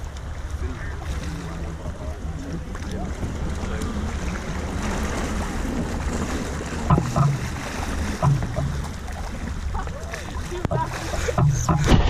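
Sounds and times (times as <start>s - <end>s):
distant voices: 0.0s - 12.0s
surf: 0.0s - 12.0s
wind on microphone: 0.0s - 12.0s.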